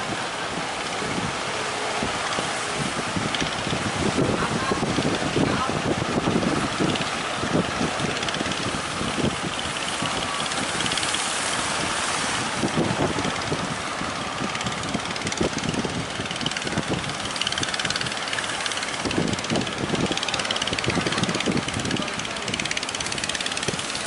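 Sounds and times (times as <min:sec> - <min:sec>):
boat engine running: 0:00.0 - 0:24.0
surf breaking: 0:00.0 - 0:24.0
wind buffeting microphone: 0:00.0 - 0:24.0.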